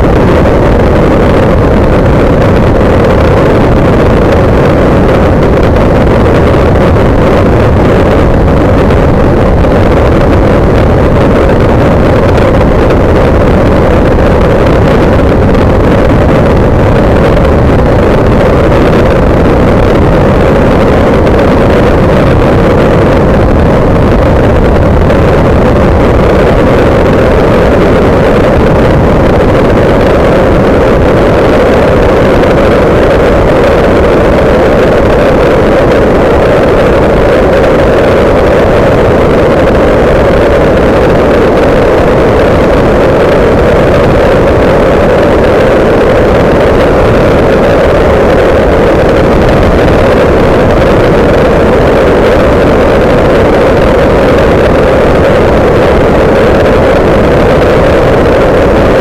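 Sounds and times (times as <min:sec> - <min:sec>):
ultralight engine droning: 0:00.0 - 0:59.0
wind rushing over microphone: 0:00.0 - 0:59.0.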